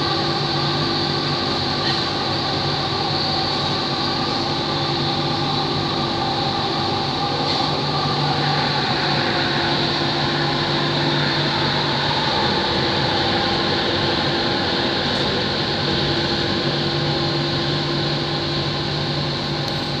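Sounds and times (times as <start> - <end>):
metro train running noise: 0.0 - 20.0.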